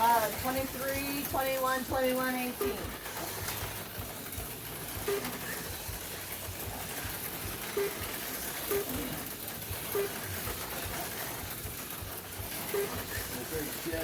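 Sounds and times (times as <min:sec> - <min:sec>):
slot cars racing on plastic track: 0:00.0 - 0:14.0.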